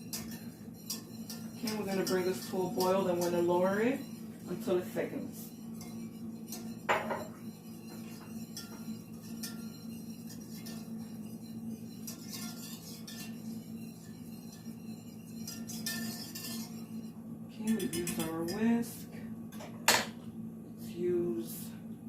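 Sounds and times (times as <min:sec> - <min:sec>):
whisk scraping a saucepan: 0:00.0 - 0:18.8
steady low hum: 0:00.0 - 0:22.0.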